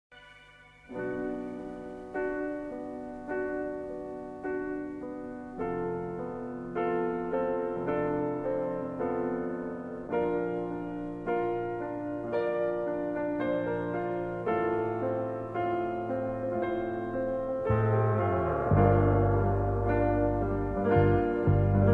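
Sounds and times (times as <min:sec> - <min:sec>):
slow gentle piano music: 0:00.1 - 0:21.9.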